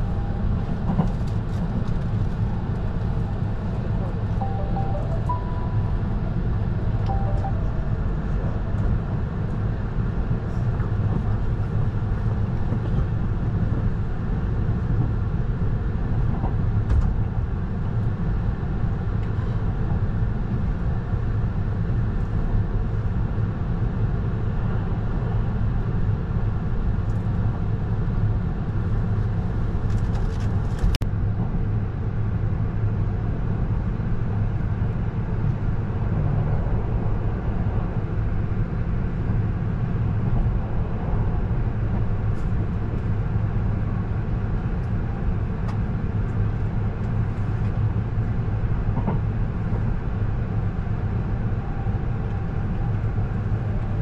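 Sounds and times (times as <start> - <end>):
train carriage rumbling on rails: 0.0 - 54.0.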